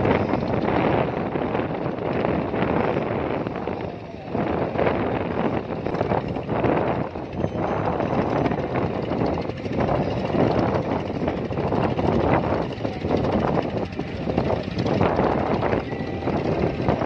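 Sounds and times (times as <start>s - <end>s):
motorboat engines running: 0.0s - 17.0s
wind buffeting microphone: 0.0s - 17.0s.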